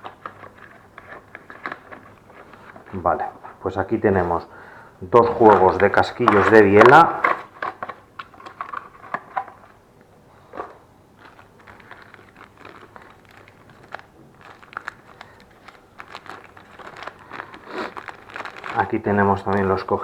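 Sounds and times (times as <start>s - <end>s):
packaging crinkling: 0.0s - 20.0s.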